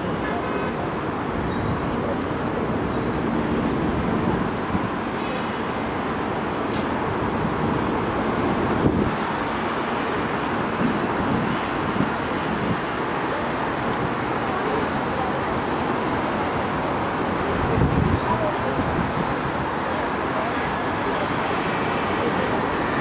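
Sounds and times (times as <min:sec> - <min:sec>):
road traffic roar: 0:00.0 - 0:23.0
wind rumble on microphone: 0:00.0 - 0:23.0.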